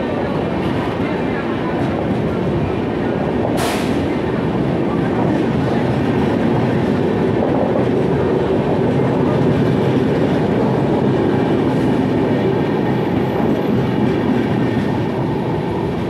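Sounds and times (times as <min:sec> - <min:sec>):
train coaches rumbling past: 0:00.0 - 0:16.0.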